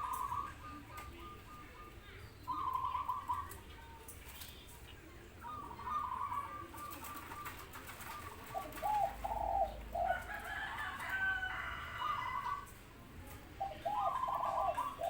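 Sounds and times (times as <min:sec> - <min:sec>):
doves cooing: 0:00.0 - 0:04.5, 0:05.3 - 0:12.8, 0:13.5 - 0:15.0.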